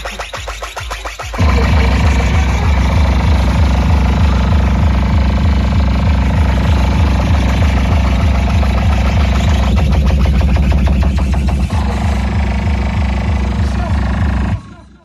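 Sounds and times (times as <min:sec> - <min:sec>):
deep bass drone from speakers: 0:01.4 - 0:15.0.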